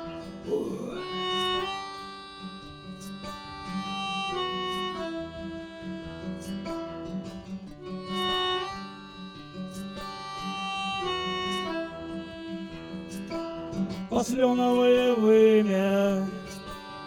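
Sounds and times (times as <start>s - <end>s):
guitar playing: 0.0s - 17.0s
melody of long held notes: 0.0s - 17.0s.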